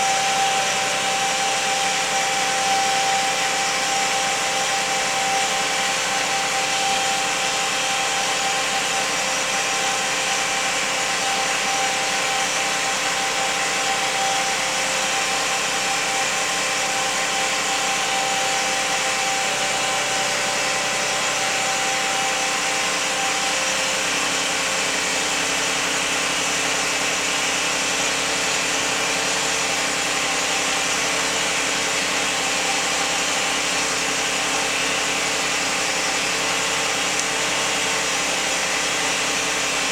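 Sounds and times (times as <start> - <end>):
car engine whine: 0.0 - 39.9.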